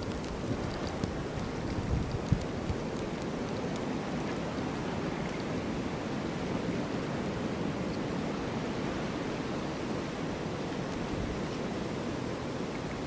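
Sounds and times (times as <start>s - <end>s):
snowstorm wind blowing: 0.0s - 13.0s.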